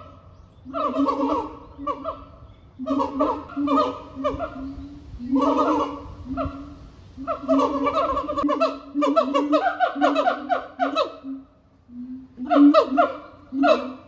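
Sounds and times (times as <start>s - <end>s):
gibbons whooping in chorus: 0.7s - 11.6s, 12.4s - 14.0s.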